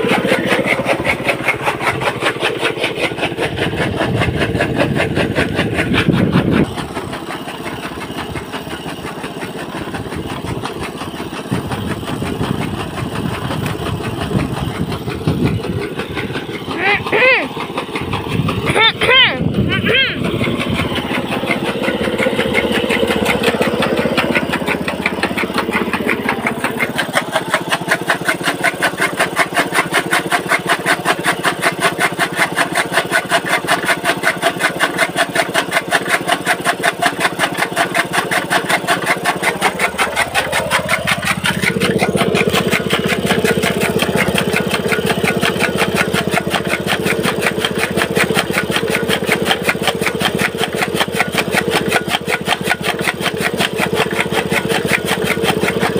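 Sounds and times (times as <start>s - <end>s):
chaff cutter chopping fodder: 0.0s - 55.9s
small petrol engine running: 0.0s - 55.9s.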